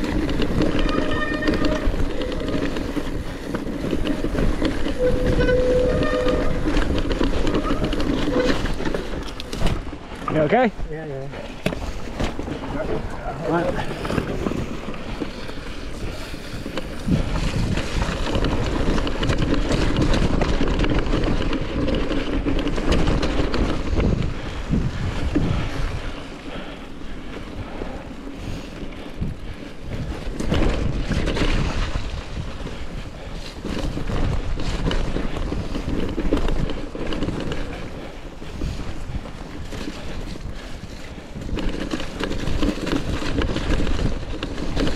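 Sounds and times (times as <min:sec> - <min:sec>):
bike rattling and knocking: 0:00.0 - 0:44.9
tyres rolling over dirt and stones: 0:00.0 - 0:44.9
wind buffeting microphone: 0:00.0 - 0:44.9.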